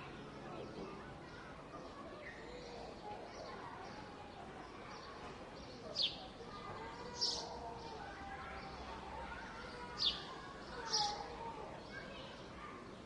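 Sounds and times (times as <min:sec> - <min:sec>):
birds chirping: 0:00.0 - 0:13.0
murmur of distant voices: 0:00.0 - 0:13.0.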